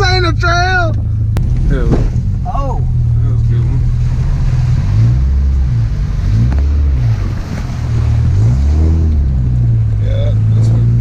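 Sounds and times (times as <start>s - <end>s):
car engine revving under load: 0.8s - 11.0s.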